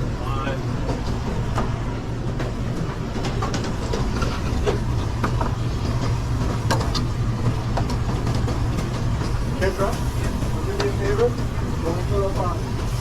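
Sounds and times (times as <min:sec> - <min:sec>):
low rumble of kitchen equipment: 0:00.0 - 0:13.0.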